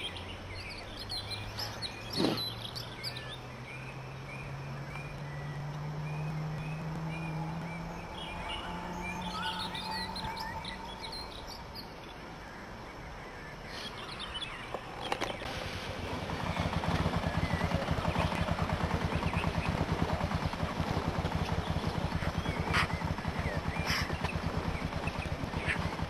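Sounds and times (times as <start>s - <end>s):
birds singing: 0.0s - 15.5s, 16.2s - 26.0s
motorcycle engine starting and running: 0.5s - 12.1s, 14.6s - 26.0s.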